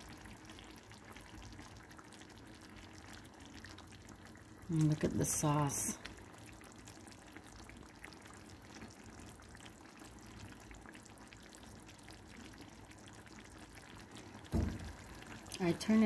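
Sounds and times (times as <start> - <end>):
bubbles popping crackle: 0.0 - 16.0
sauce simmering in a pot: 0.0 - 16.0.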